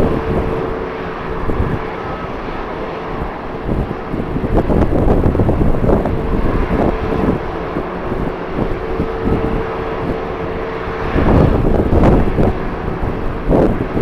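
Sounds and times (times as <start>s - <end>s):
jet engine tone: 0.0s - 14.0s
wind buffeting microphone: 0.0s - 14.0s.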